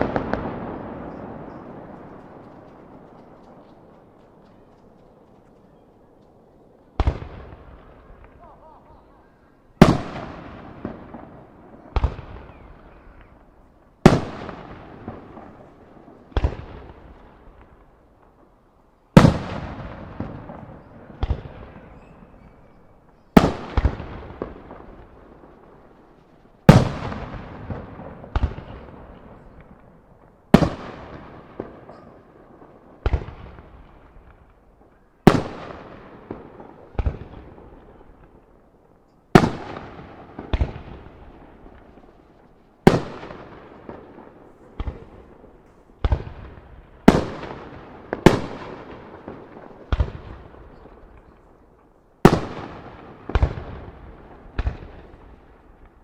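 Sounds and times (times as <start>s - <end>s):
firework bangs echoing: 0.0s - 4.7s, 7.0s - 9.0s, 9.8s - 17.9s, 19.1s - 26.0s, 26.6s - 38.5s, 39.3s - 51.6s, 52.2s - 56.0s.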